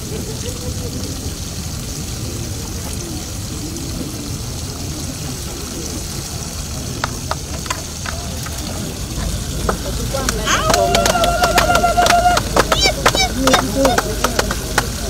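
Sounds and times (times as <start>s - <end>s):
background murmur: 0.0s - 15.0s
water pouring onto soil: 0.0s - 15.0s.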